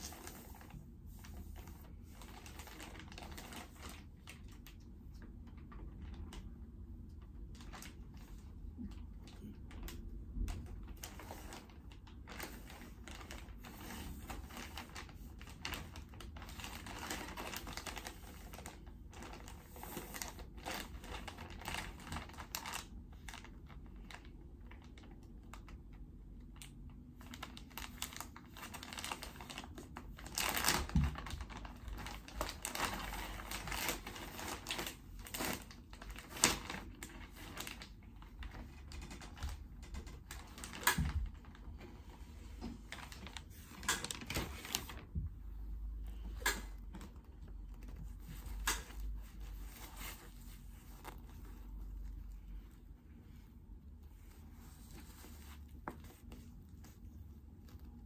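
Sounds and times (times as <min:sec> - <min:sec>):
plastic bag crinkling: 0:00.0 - 0:06.6, 0:07.3 - 0:25.9, 0:27.2 - 0:52.7.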